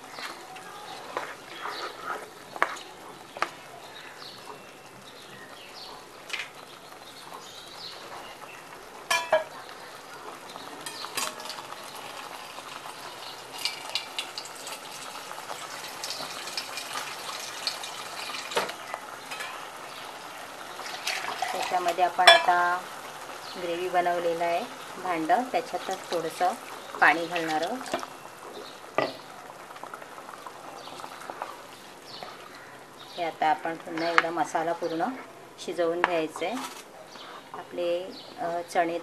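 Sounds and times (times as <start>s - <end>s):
gravy sizzling in a pan: 0.0s - 38.9s.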